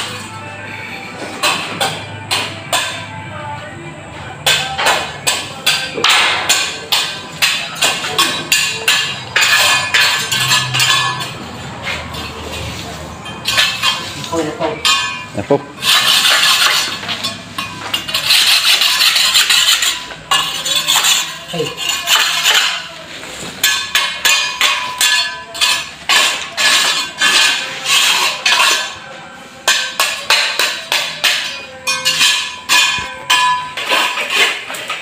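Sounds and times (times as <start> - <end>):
metallic clinks and scrapes: 4.4 - 35.0.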